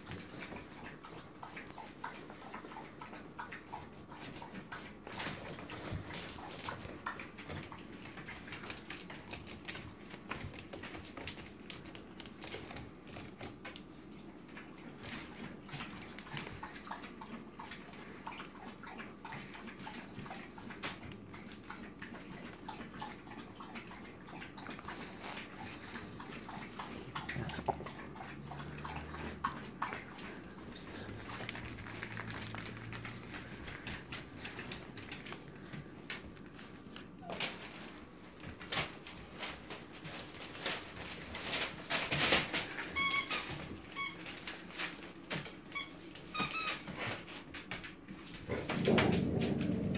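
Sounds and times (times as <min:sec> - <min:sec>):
puppies scuffling on plastic floor: 0:00.0 - 0:49.9.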